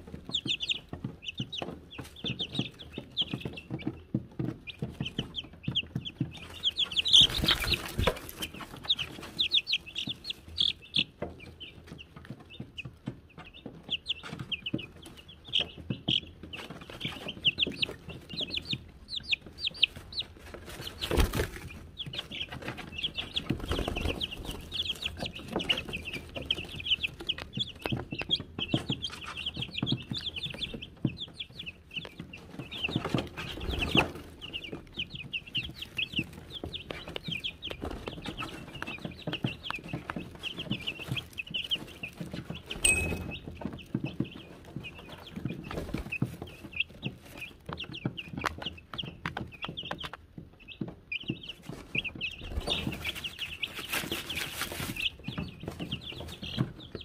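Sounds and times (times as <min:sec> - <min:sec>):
chicks peeping: 0:00.0 - 0:57.0
rustles and knocks: 0:00.0 - 0:57.0.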